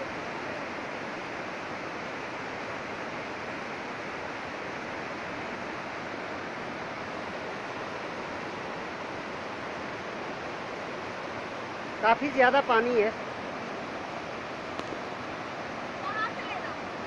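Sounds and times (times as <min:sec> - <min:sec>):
stream rushing over boulders: 0:00.0 - 0:17.0.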